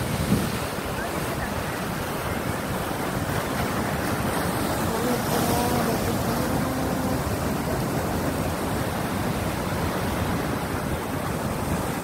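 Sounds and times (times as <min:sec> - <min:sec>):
sea surf breaking over rocks: 0:00.0 - 0:12.0.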